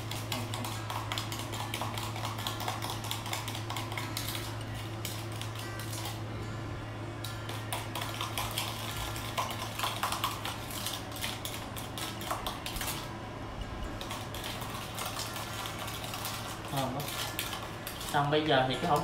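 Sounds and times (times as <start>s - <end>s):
spoon whisking in a bowl: 0.0s - 6.2s, 7.3s - 13.1s, 13.8s - 19.0s
steady low hum: 0.0s - 19.0s.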